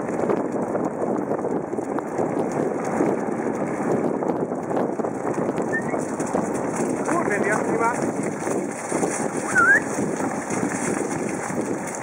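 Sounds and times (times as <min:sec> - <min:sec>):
cart wheels rumbling on asphalt: 0:00.0 - 0:12.0.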